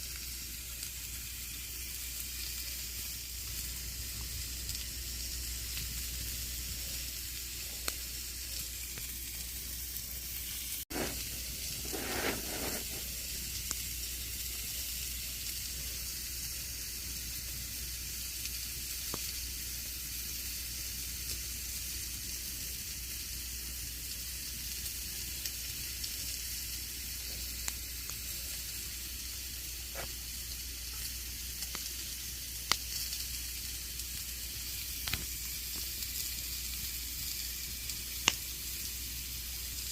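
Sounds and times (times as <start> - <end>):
campfire crackling: 0.0 - 39.9
fire flaring: 0.0 - 39.9.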